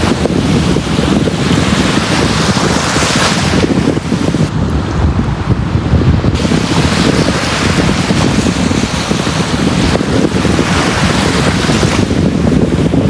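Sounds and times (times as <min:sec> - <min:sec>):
sea waves washing onto beach: 0:00.0 - 0:04.6, 0:06.4 - 0:13.0.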